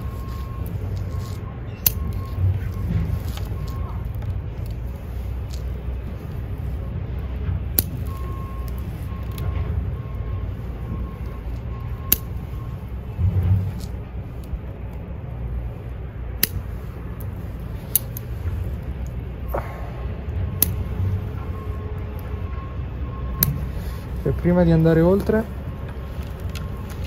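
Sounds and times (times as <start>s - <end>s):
scissors snipping roots: 0.0s - 10.2s, 10.8s - 15.1s, 16.3s - 22.4s, 23.2s - 27.0s.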